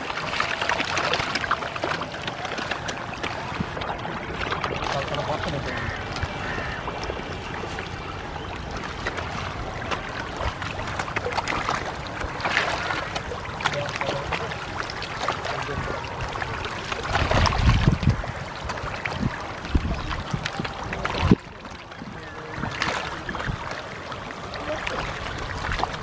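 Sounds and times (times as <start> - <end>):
fish splashing in water: 0.0 - 26.0.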